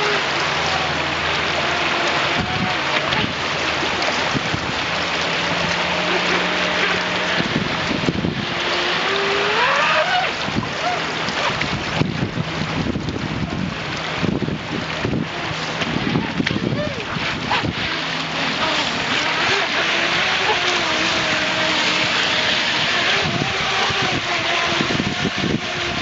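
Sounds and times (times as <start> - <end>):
faint boat motor whine: 0.0 - 26.0
flood water rushing: 0.0 - 26.0.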